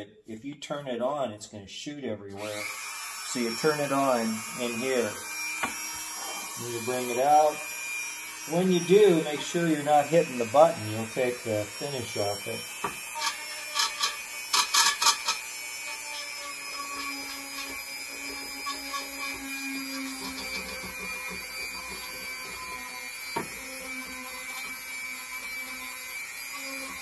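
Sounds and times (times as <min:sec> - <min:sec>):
rotary tool motor whine: 0:02.4 - 0:27.0.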